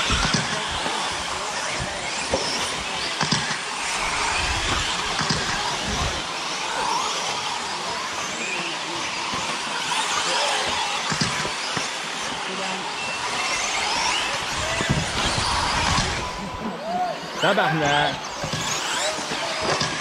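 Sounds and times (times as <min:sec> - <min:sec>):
rc trucks motors whining: 0:00.0 - 0:20.0.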